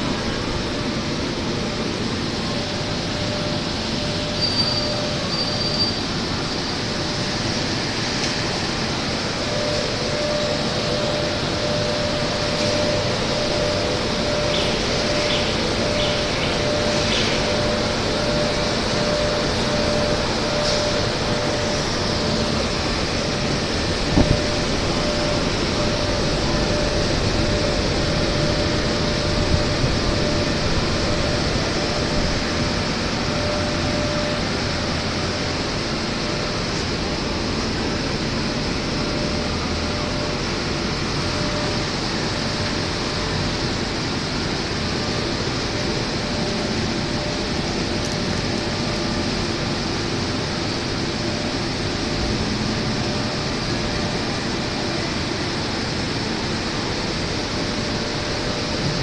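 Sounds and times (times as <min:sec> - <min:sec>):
machinery humming: 0:00.0 - 0:59.0.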